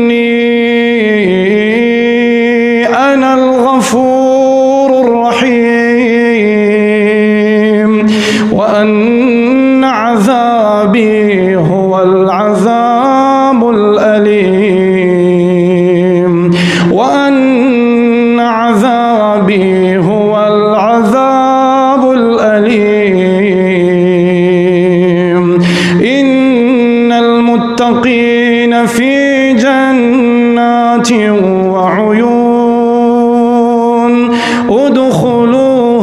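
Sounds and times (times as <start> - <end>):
man chanting melodically: 0.0 - 36.0.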